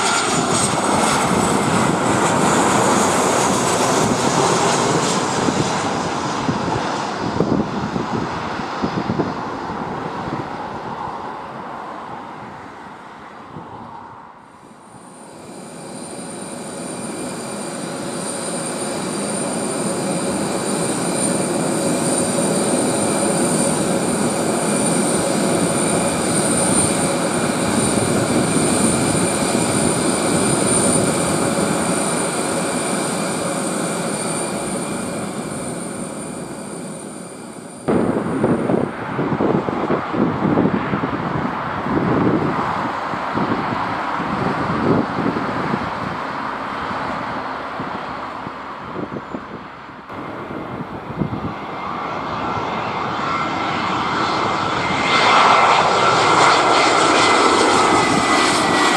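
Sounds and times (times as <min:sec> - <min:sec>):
jet engine whine: 0:00.0 - 0:58.9
jet plane passing: 0:00.0 - 0:58.9.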